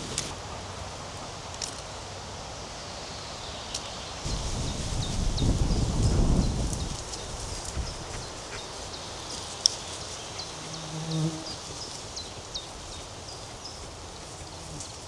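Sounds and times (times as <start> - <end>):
small birds chirping: 2.8 - 15.0.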